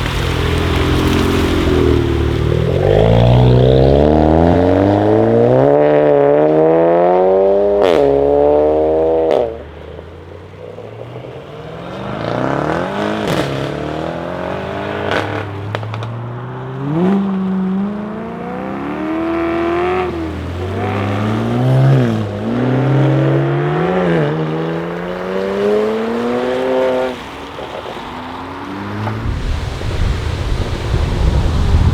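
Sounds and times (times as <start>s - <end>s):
car engine revving: 0.0s - 31.9s
exhaust crackles and pops: 0.0s - 31.9s.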